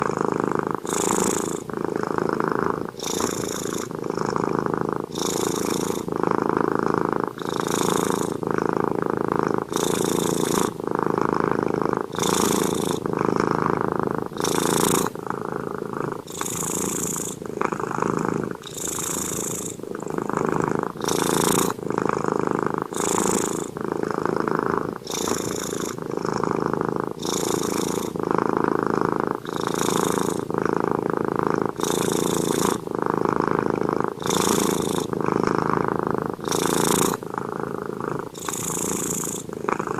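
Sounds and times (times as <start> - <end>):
cat snoring: 0.0 - 39.9.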